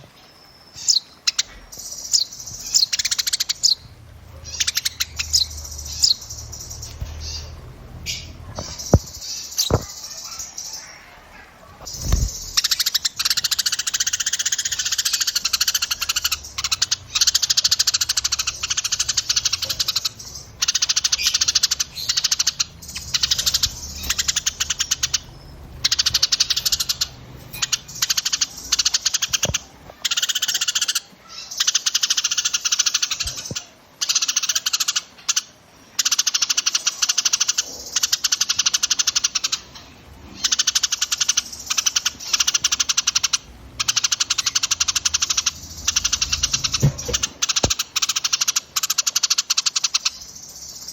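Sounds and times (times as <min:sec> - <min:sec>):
songbirds chattering trill: 0:00.0 - 0:50.9.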